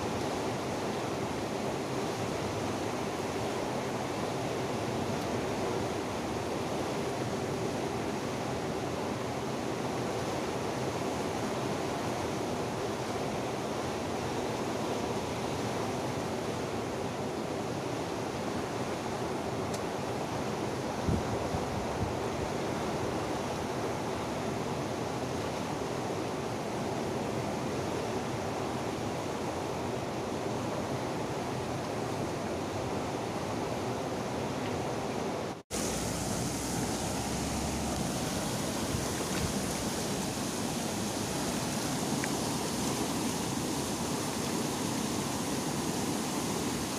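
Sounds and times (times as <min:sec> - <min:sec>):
river rushing over rocks: 0:00.0 - 0:46.9.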